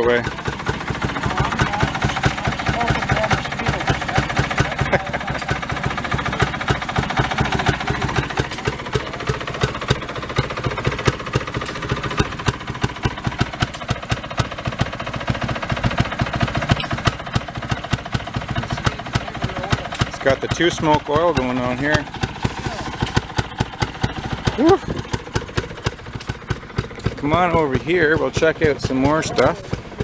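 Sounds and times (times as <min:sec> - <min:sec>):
small two-stroke engine idling: 0:00.0 - 0:30.0.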